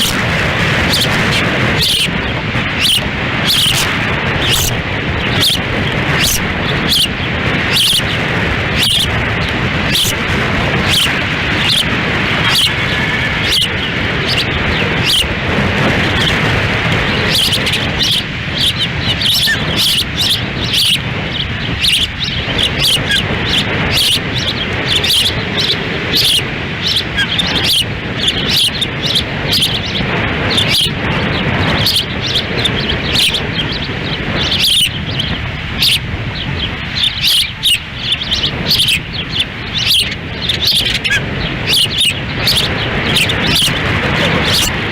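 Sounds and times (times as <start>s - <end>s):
osprey chirps: 0.0s - 44.9s
wind buffeting microphone: 0.0s - 44.9s.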